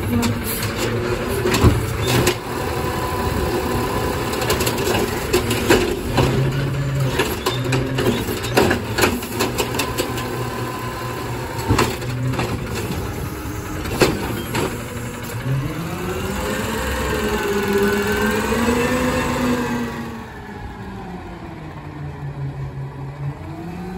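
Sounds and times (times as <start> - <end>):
cart banging on hopper: 0.0 - 19.5
hydraulic whine: 0.0 - 23.9
truck engine running and revving: 0.0 - 23.9.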